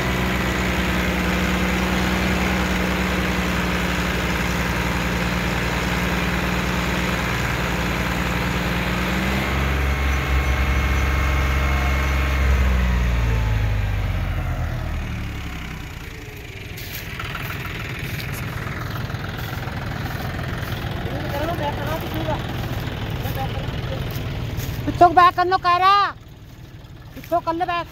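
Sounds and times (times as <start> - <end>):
tractor diesel engine: 0.0 - 27.9.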